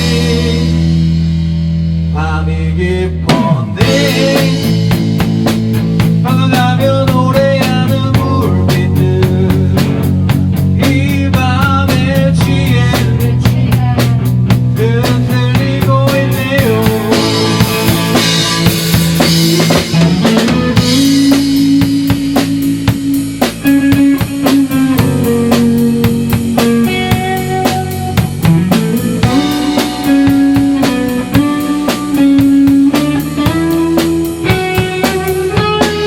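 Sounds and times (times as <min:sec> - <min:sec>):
instrumental rock band: 0:00.0 - 0:36.0.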